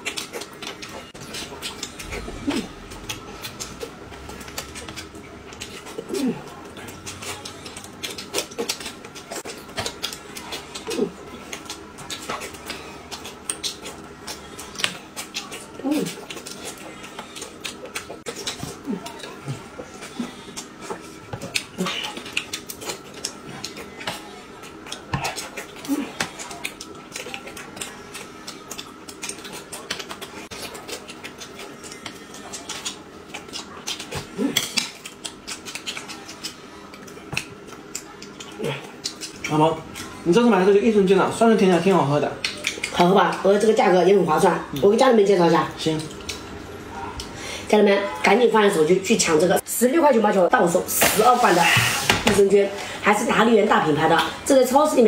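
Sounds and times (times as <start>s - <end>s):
crunching and chewing food: 0.0s - 49.7s.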